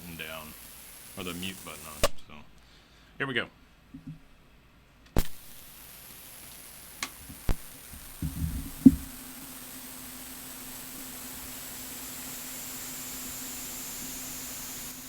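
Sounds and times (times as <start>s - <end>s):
tape hiss: 0.0s - 2.8s, 5.1s - 15.0s.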